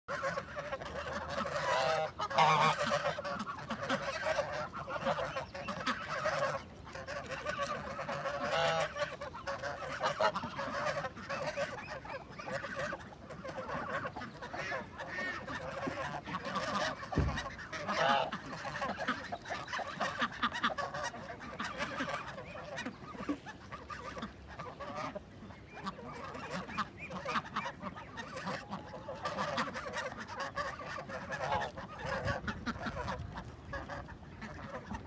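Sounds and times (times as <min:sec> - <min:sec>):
geese honking: 0:00.1 - 0:35.0.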